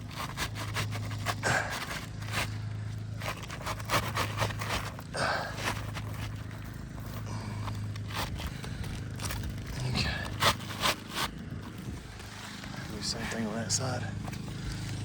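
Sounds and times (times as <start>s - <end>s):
shingle scraping: 0.0s - 15.0s.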